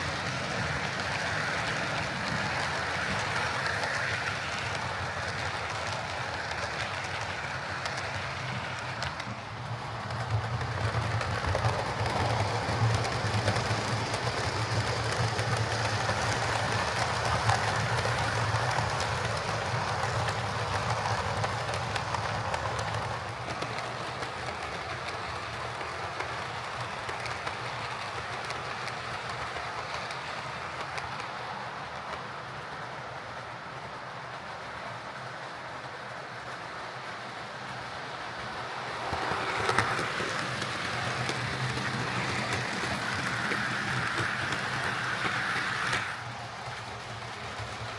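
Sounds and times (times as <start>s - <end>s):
model locomotive motor hum: 0.0s - 47.9s
wheels clicking on rails: 0.0s - 47.9s.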